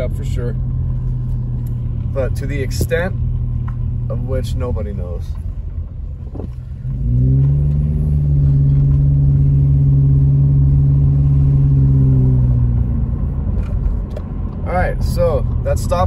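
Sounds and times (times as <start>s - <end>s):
car engine pulling away: 0.0s - 16.0s
low road rumble: 0.0s - 16.0s.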